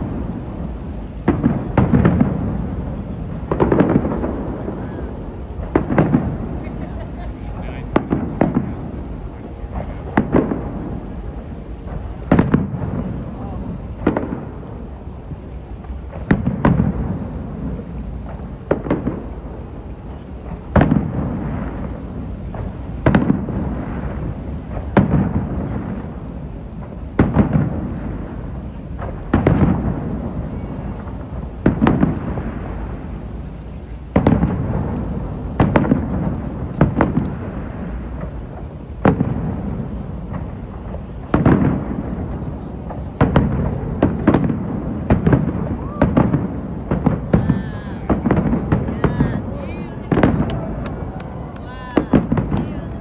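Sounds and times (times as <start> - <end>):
fireworks booming: 0.0 - 53.0.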